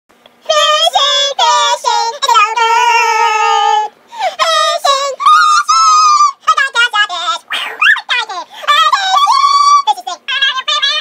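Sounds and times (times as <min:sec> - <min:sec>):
high-pitched singing voice: 0:00.4 - 0:11.0.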